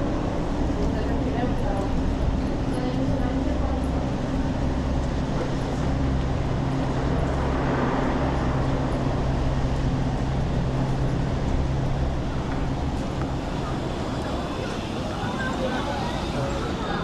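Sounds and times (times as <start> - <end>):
traffic and engine drone: 0.0 - 17.0.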